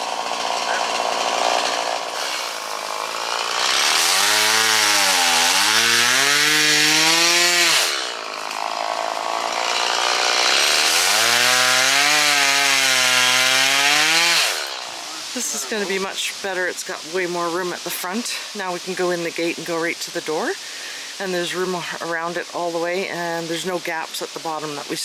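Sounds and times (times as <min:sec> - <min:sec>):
chainsaw cutting brush: 0:00.0 - 0:21.2.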